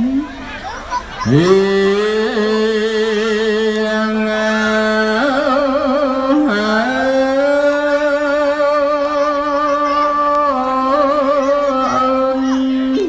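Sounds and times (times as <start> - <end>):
man chanting solo: 1.2 - 13.0.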